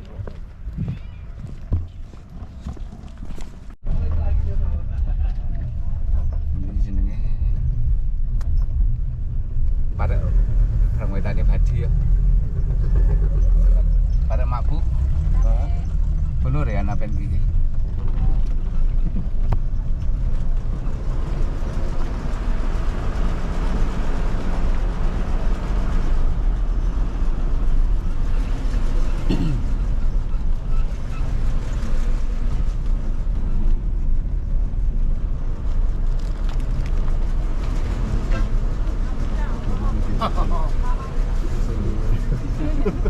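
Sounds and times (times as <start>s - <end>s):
car engine low rumble: 0.0s - 43.0s.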